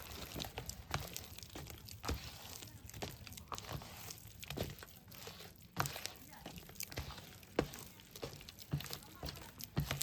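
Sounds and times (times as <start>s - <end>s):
crinkling rustles: 0.0s - 10.0s
small clicks and crackles: 0.0s - 10.0s.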